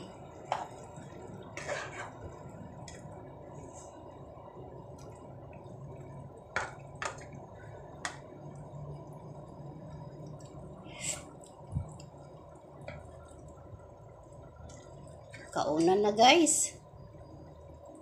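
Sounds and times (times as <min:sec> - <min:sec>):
stew bubbling in a pan: 0:00.0 - 0:18.0.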